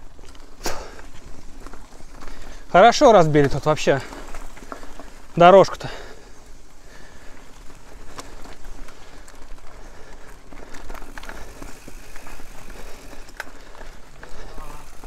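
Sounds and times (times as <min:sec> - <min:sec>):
mountain bike rolling on dirt: 0:00.0 - 0:15.0.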